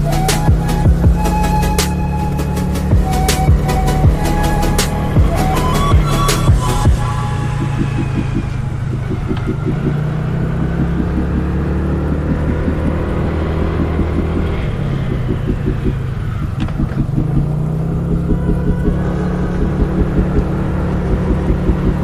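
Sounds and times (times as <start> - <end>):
road rumble: 0.0 - 22.0
vehicle engine hum: 0.0 - 22.0.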